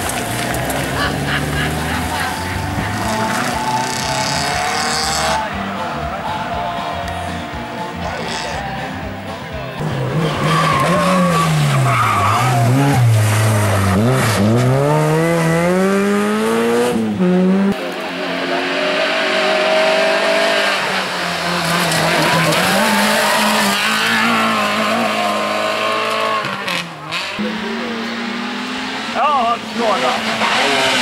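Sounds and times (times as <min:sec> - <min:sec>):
rally car holding high revs: 0:00.0 - 0:05.6, 0:09.8 - 0:31.0
rally car engine accelerating: 0:00.0 - 0:06.5, 0:09.8 - 0:31.0.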